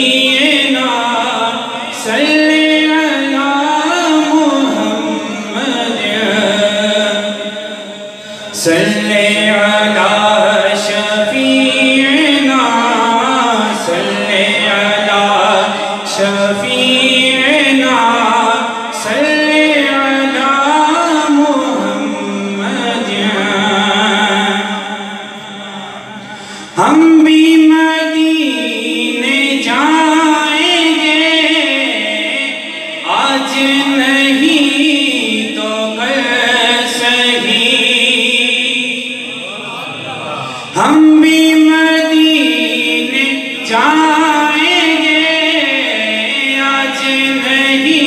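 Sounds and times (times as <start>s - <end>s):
man singing into a microphone: 0.0s - 48.0s.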